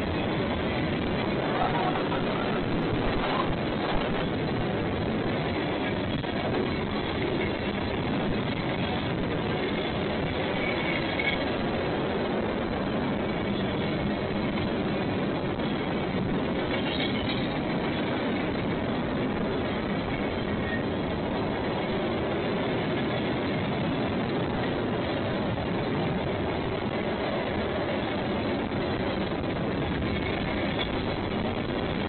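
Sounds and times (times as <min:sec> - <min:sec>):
train cars rolling on rails: 0:00.0 - 0:32.0.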